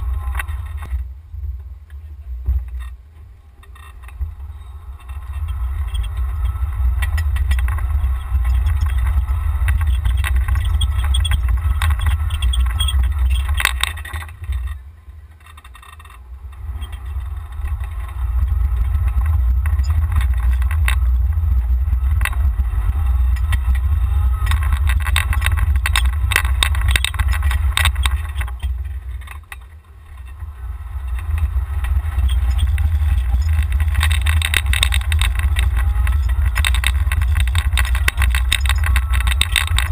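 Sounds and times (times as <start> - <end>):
golf cart driving rumble: 0.0 - 39.9
rattles and knocks: 1.9 - 39.9.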